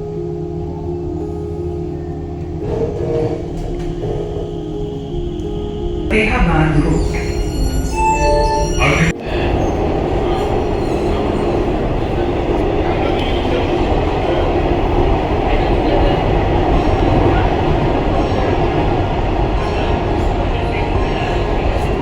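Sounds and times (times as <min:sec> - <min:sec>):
metro train running: 0:00.0 - 0:22.0.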